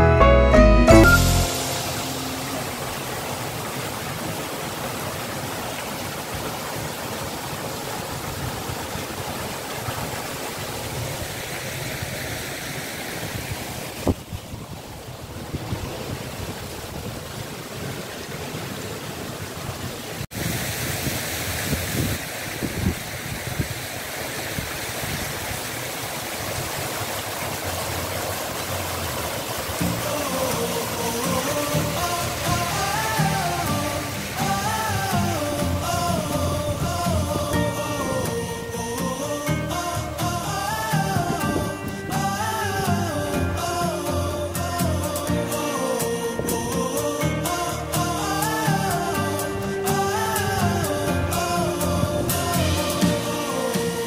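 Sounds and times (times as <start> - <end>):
fountain water splashing: 1.1 - 54.0.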